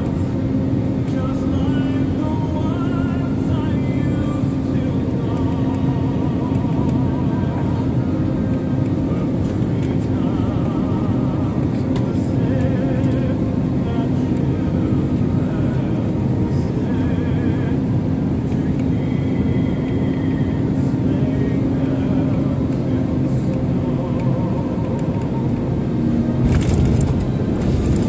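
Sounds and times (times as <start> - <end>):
jet airliner cabin noise: 0.0 - 28.0.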